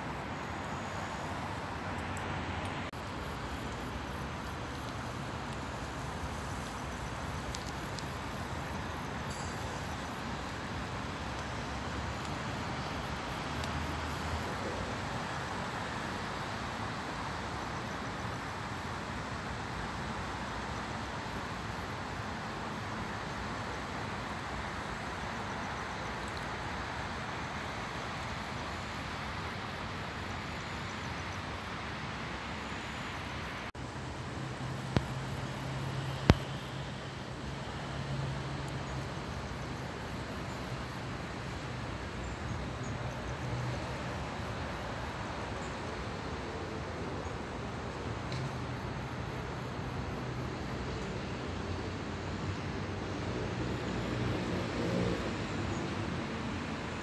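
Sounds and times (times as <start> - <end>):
distant road traffic: 0.0 - 57.0.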